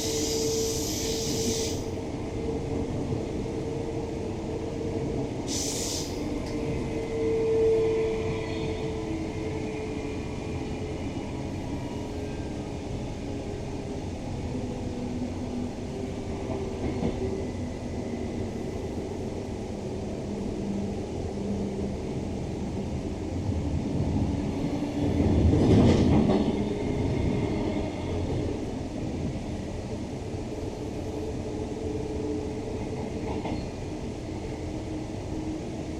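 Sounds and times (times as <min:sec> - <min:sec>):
train rumbling on track: 0:00.0 - 0:35.9.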